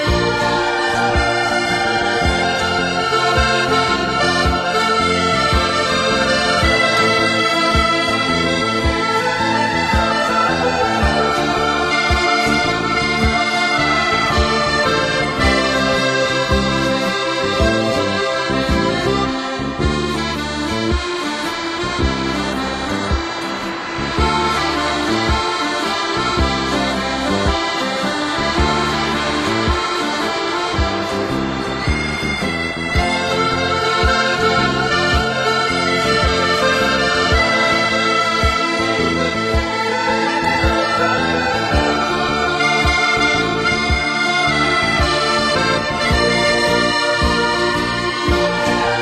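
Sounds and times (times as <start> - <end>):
background music with steady beat: 0.0 - 49.0.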